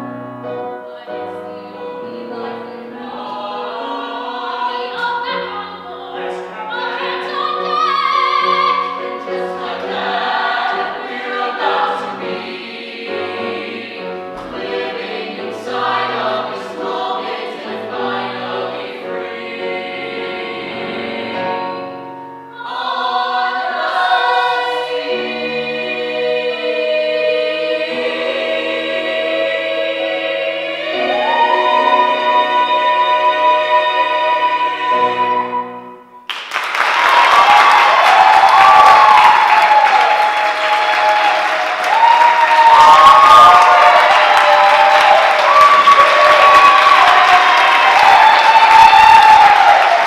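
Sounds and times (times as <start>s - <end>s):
ensemble singing in harmony: 0.0s - 36.2s, 37.2s - 50.0s.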